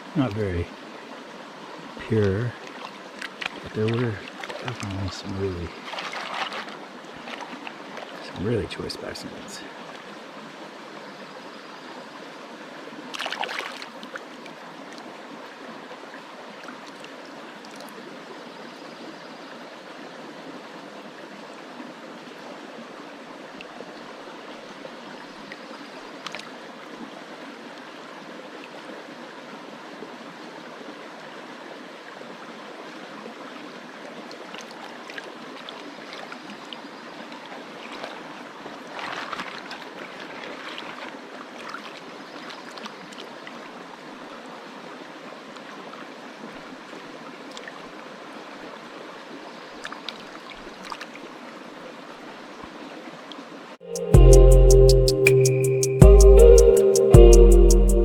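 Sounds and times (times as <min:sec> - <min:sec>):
creek water rushing: 0:00.0 - 0:54.4.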